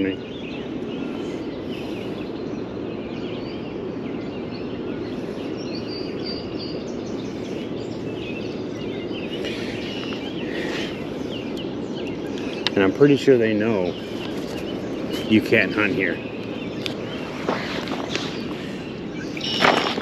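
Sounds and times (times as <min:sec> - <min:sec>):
birds chirping and calling: 0:00.0 - 0:20.0
rushing outdoor noise: 0:00.0 - 0:20.0.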